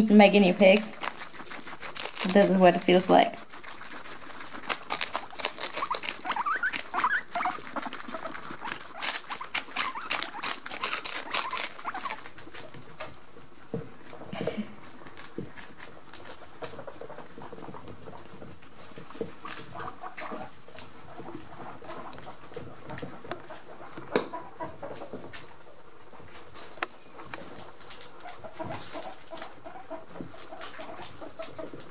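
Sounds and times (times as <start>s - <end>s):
guinea pig squeaks: 0.0s - 13.2s, 14.8s - 31.9s
guinea pigs crunching lettuce: 0.0s - 31.9s.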